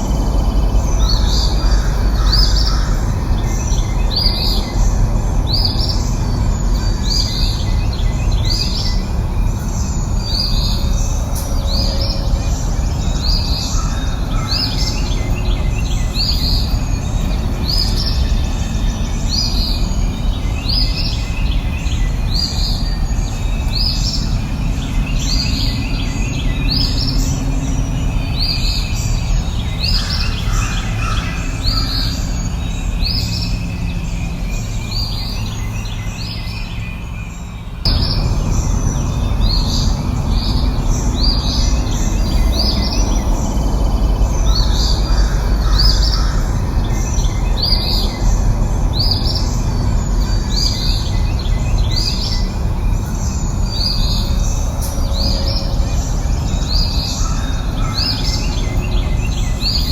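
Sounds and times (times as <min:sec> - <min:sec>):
low rushing background noise: 0:00.0 - 0:59.9.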